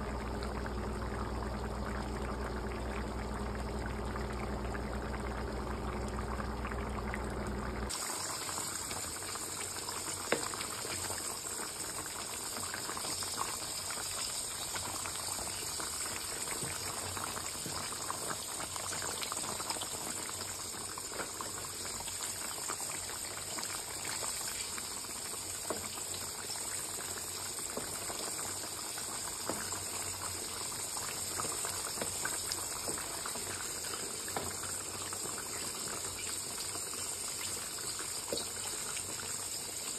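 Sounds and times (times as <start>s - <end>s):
curry bubbling and popping: 0.0s - 39.9s.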